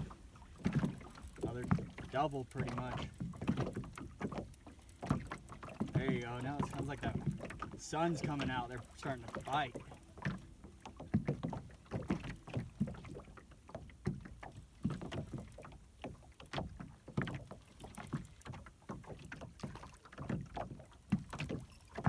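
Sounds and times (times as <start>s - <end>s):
waves lapping against boat hull: 0.0s - 22.0s.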